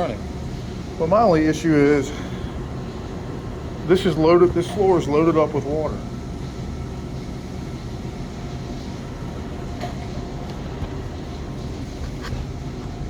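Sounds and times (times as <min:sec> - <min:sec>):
machinery rumble and hum: 0:00.0 - 0:13.0.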